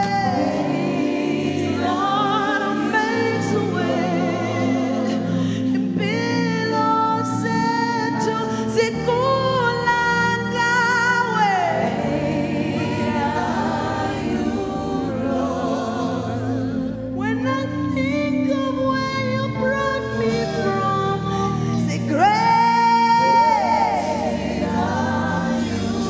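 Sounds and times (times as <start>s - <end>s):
group singing wordless notes: 0.0s - 26.0s.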